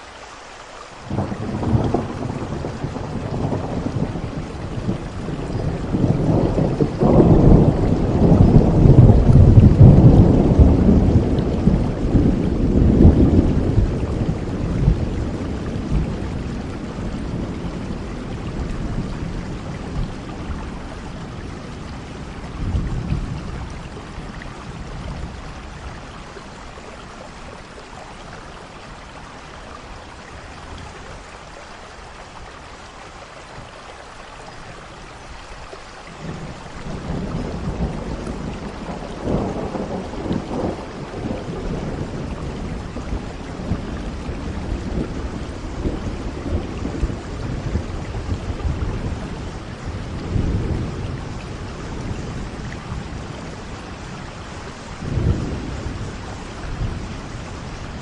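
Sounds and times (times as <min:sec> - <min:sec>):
steady rain: 0:00.0 - 0:58.0
rolling thunder: 0:01.1 - 0:26.4, 0:36.2 - 0:58.0.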